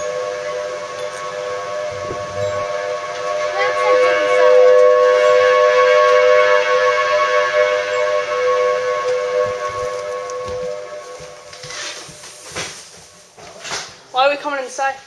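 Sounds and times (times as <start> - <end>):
outdoor warning siren chord: 0.0 - 12.2.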